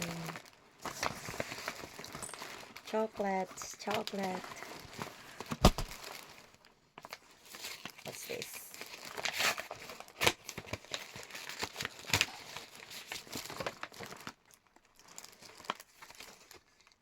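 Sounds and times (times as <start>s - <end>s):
wrapping paper crinkling: 0.0s - 17.0s.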